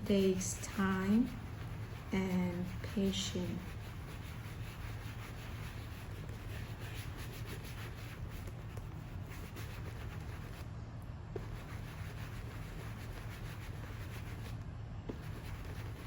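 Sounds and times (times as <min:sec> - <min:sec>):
steady low hum: 0:00.0 - 0:16.0
towel scrubbing leather: 0:00.1 - 0:10.6, 0:11.4 - 0:16.0.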